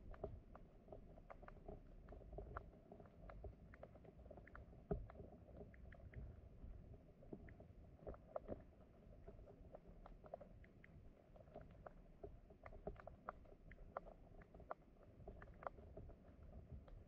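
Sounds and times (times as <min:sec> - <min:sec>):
small clicks and ticks: 0:00.0 - 0:17.0
underwater flowing water rumble: 0:00.0 - 0:17.0.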